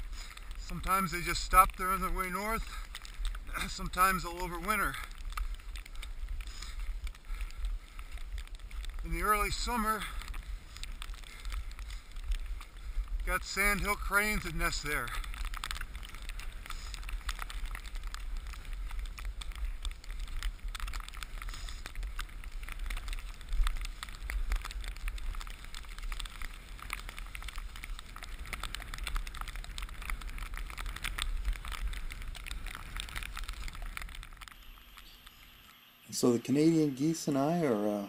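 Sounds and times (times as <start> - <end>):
wind rumble on microphone: 0.0 - 4.1, 4.8 - 34.5
skis sliding over snow: 0.0 - 38.0.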